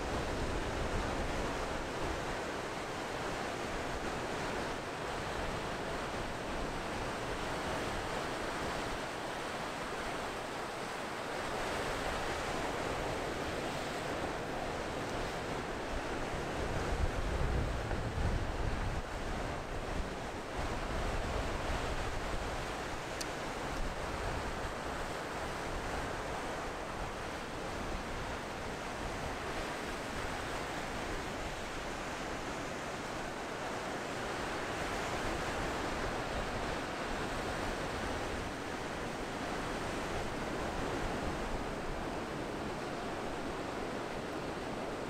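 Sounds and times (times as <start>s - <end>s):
ocean surf breaking on beach: 0.0s - 45.0s.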